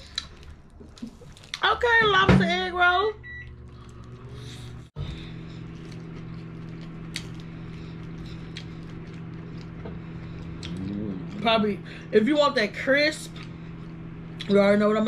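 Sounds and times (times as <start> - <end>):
appliance electrical hum: 0.0 - 15.0.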